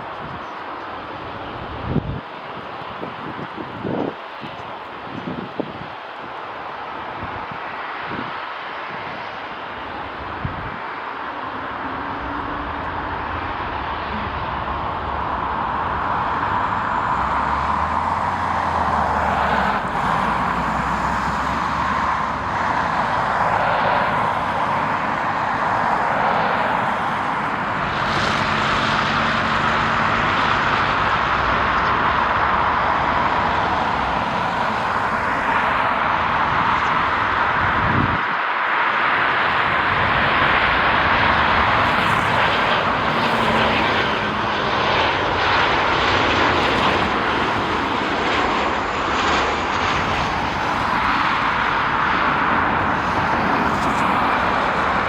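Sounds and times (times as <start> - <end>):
jet airliner engines roaring: 0.0 - 55.0.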